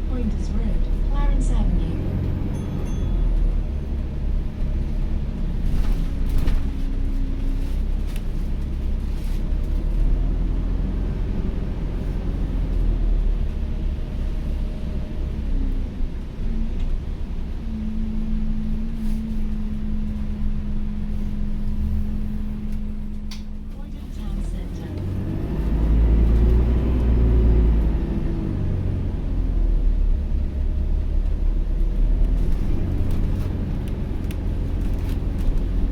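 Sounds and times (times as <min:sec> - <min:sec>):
bus interior rumble: 0:00.0 - 0:35.9.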